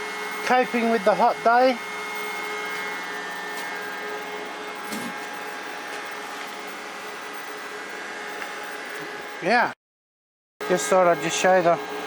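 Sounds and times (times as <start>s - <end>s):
cooling fans whirring: 0.0s - 9.8s, 10.6s - 12.0s
electrical whine: 0.0s - 9.8s, 10.6s - 12.0s.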